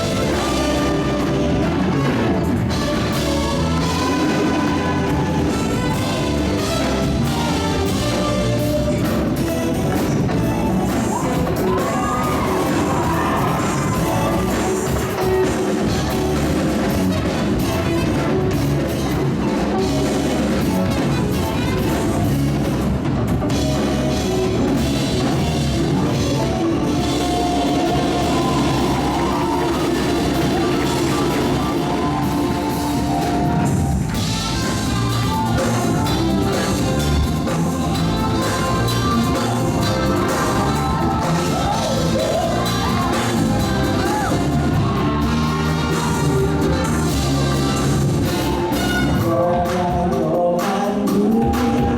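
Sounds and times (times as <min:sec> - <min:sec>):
drum kit beat: 0:00.0 - 0:51.9
live band playing gospel hymn: 0:00.0 - 0:51.9.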